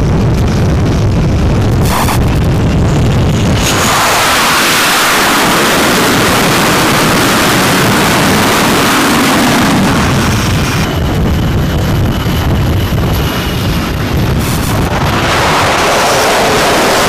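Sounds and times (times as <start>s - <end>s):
jet engines rushing roar: 0.0s - 17.0s.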